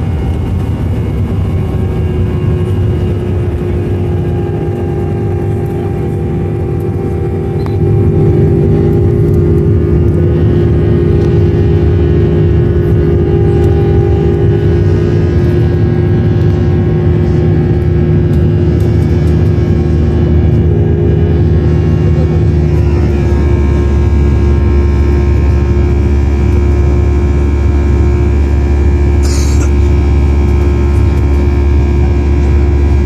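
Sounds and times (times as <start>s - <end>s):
jet engines rumbling in cabin: 0.0s - 33.0s.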